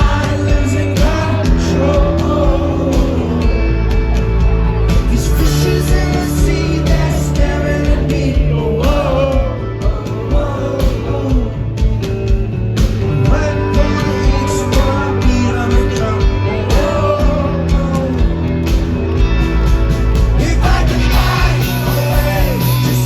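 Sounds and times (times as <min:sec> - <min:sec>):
drum beat: 0:00.0 - 0:03.4, 0:04.4 - 0:23.0
man singing: 0:00.0 - 0:03.9, 0:04.8 - 0:12.0, 0:13.1 - 0:18.6, 0:20.3 - 0:23.0
bass: 0:00.0 - 0:23.0
guitar: 0:00.0 - 0:23.0.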